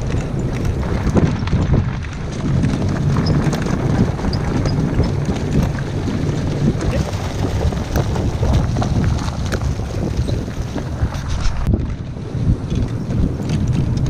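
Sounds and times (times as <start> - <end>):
cart wheels rattling on dirt trail: 0.0 - 14.0
wind buffeting microphone: 0.0 - 14.0.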